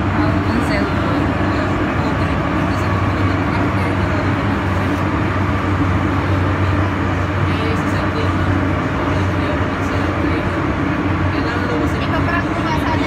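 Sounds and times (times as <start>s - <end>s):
low steady hum: 0.0s - 13.0s
metro train running rumble: 0.0s - 13.0s.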